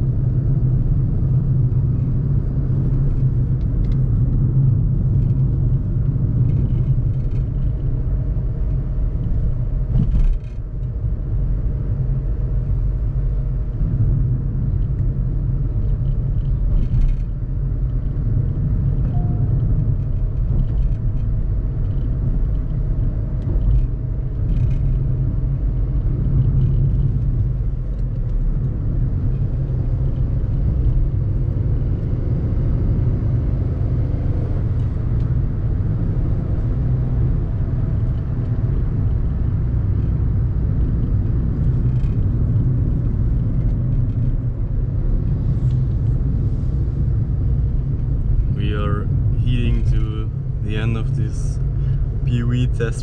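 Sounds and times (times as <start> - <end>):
car engine running: 0.0 - 53.0
road and tyre rumble: 0.0 - 53.0.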